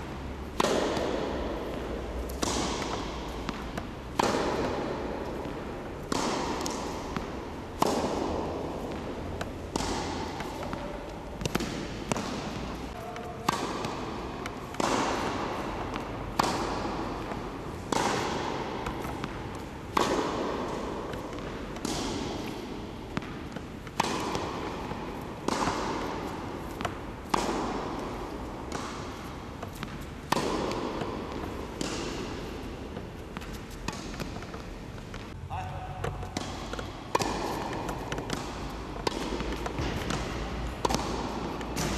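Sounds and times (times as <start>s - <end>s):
tennis racket hitting ball: 0.0s - 41.9s.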